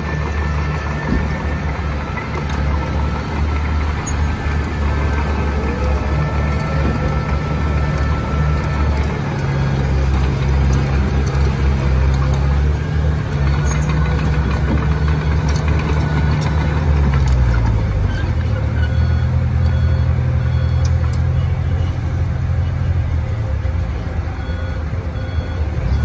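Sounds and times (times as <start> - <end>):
heavy diesel engines running: 0.0 - 26.0.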